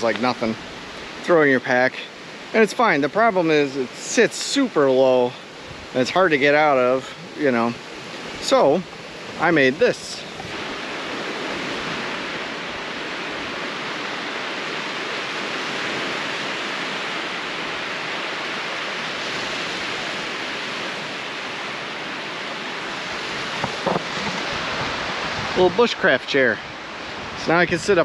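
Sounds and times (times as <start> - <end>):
lake waves breaking on shore: 0.0 - 28.0.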